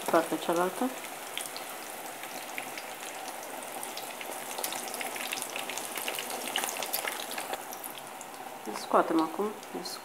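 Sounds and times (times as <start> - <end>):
frying sizzle with crackles: 0.0 - 10.0.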